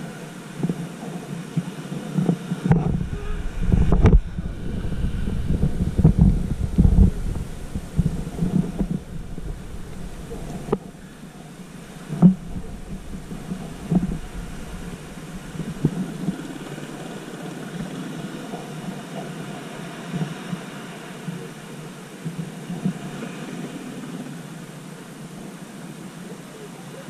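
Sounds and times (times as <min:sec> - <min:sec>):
elephant seals throbbing calls: 0:00.0 - 0:24.5.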